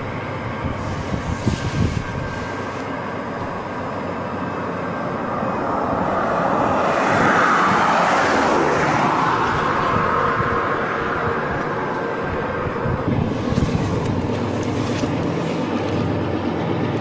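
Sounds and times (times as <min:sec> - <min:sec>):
train passing close by: 0:00.0 - 0:17.0.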